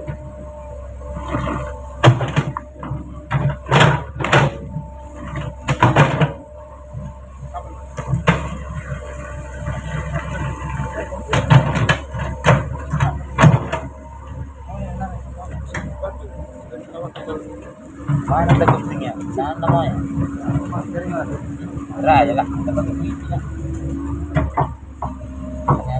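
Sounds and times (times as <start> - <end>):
truck body banging and clunking: 0.0 - 25.9
truck engine hum: 0.0 - 25.9.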